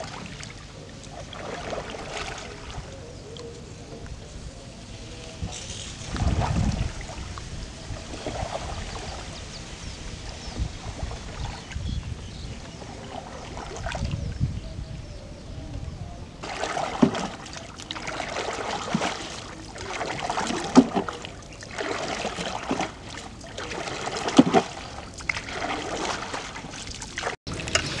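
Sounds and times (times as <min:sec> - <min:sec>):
water swishing and splashing: 0:00.0 - 0:14.5, 0:16.4 - 0:28.0.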